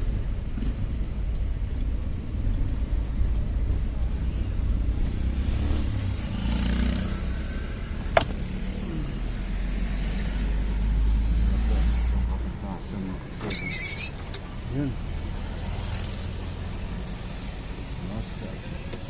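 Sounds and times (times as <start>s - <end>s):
city traffic rumble: 0.0s - 19.0s
vehicle passing: 0.6s - 18.9s.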